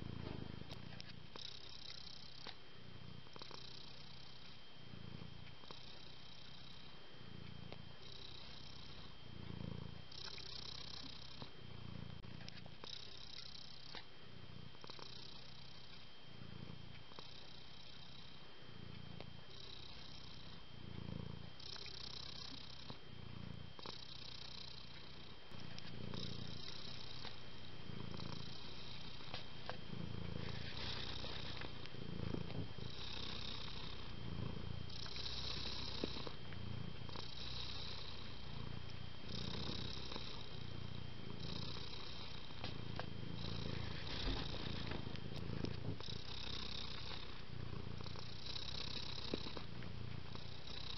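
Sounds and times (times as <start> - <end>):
cat purring: 0.0 - 50.9.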